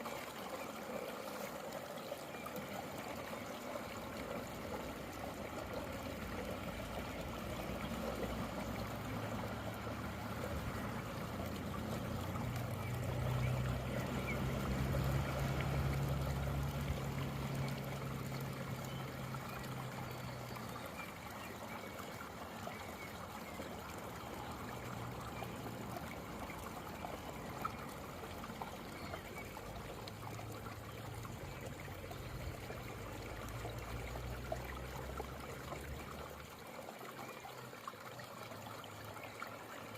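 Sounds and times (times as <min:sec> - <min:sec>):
rainwater trickling into a drain: 0:00.0 - 0:39.9.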